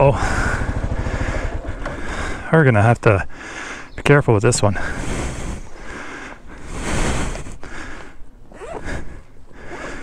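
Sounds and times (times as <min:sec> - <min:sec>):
heavy breathing: 0:00.0 - 0:02.6, 0:03.2 - 0:04.0, 0:04.8 - 0:10.0.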